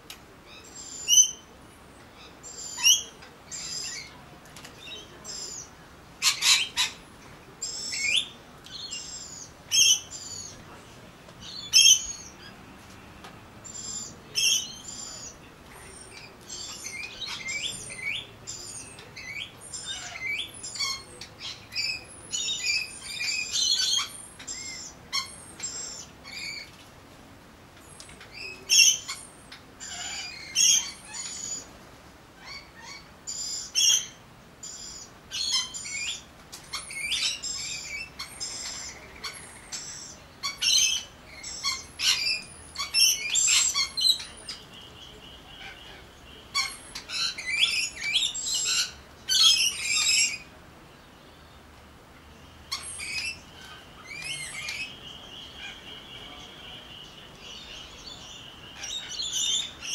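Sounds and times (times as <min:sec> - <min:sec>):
birds squawking and chirping: 0:00.5 - 0:26.8, 0:27.8 - 0:59.9.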